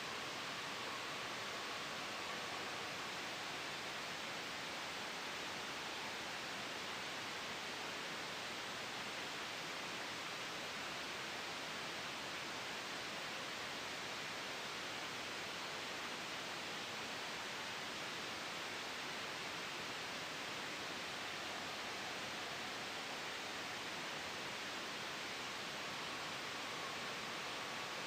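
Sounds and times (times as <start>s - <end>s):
white noise hiss: 0.0s - 28.0s.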